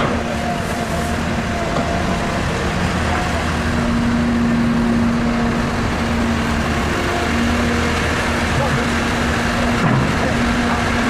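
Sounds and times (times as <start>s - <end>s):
excavator diesel engine under load: 0.0s - 11.0s.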